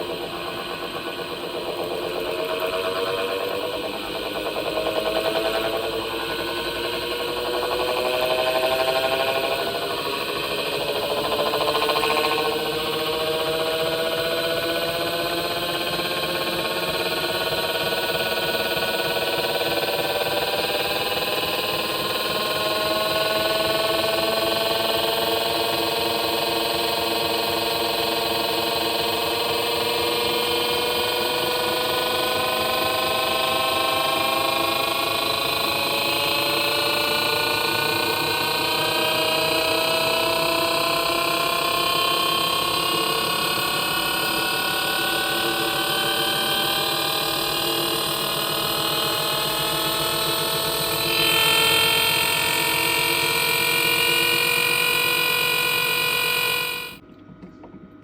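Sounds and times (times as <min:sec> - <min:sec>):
washing machine motor whining: 0:00.0 - 0:57.8.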